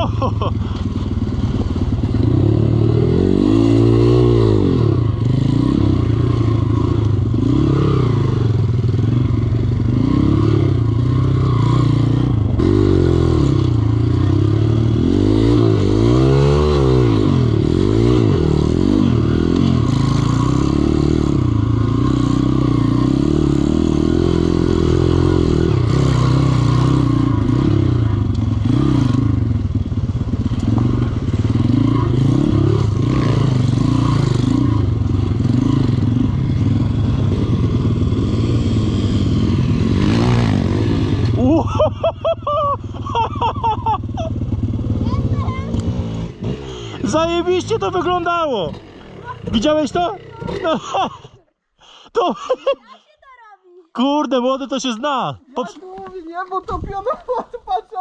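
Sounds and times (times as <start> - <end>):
dirt bike engine revving: 0.0 - 51.3.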